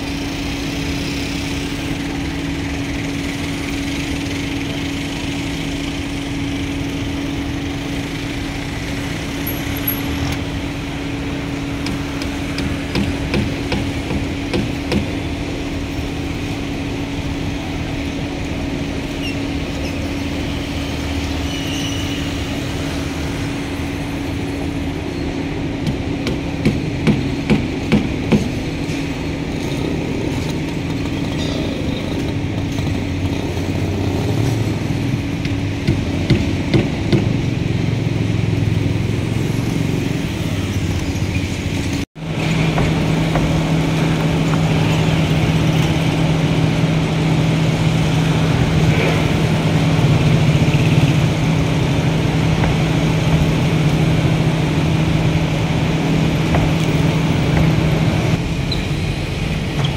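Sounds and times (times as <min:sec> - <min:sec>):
steady engine hum: 0:00.0 - 0:59.9.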